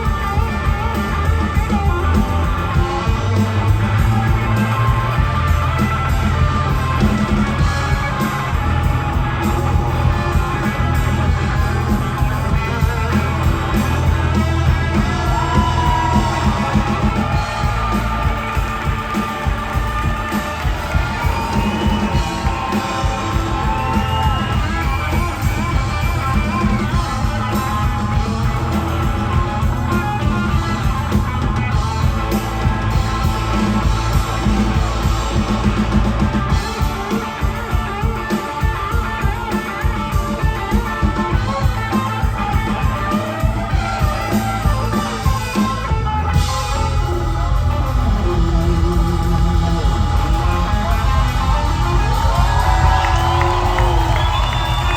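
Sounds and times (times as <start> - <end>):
rock band instrumental: 0.0 - 54.9.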